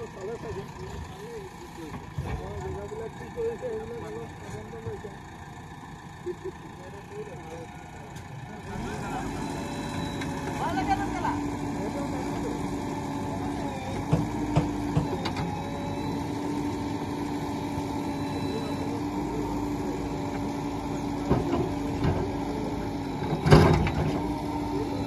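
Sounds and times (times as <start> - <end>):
diesel engines idling: 0.0 - 25.0.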